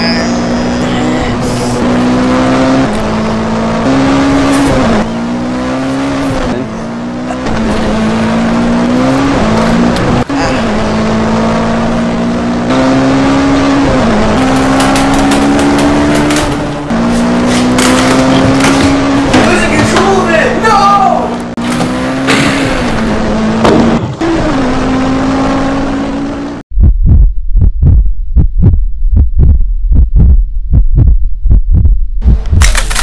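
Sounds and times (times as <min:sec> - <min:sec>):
race car engine revving: 0:00.0 - 0:26.6.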